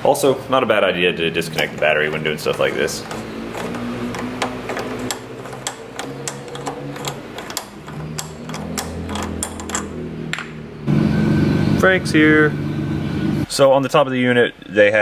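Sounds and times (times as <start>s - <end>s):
car engine running: 1.0s - 13.5s.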